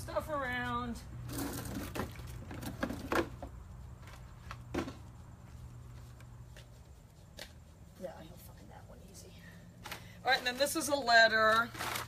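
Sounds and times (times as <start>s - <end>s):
steady low hum: 0.0s - 11.1s
rustling: 1.2s - 12.0s.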